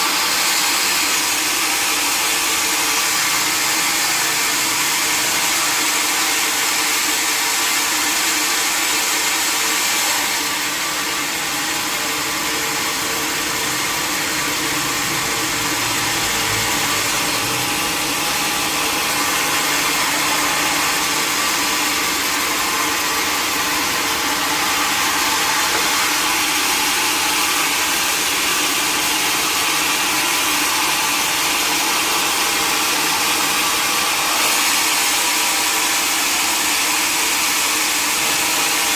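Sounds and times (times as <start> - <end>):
sawmill saw whining: 0.0 - 38.9.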